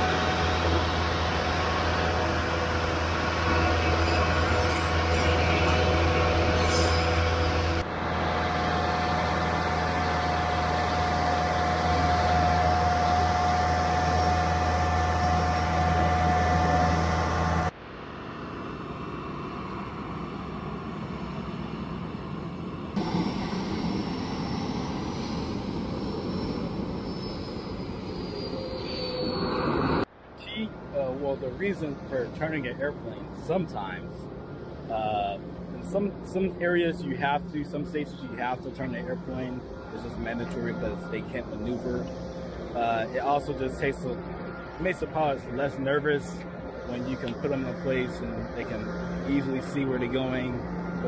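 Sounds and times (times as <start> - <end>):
aircraft engine hum: 0.0 - 51.0
faint high whine: 0.0 - 51.0.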